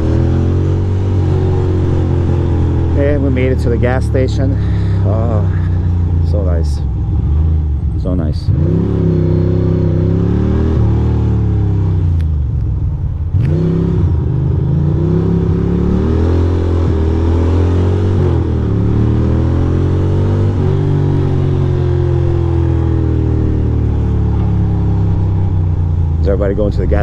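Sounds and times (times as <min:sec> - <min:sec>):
motorcycle engine revving: 0:00.0 - 0:12.3, 0:13.3 - 0:27.0.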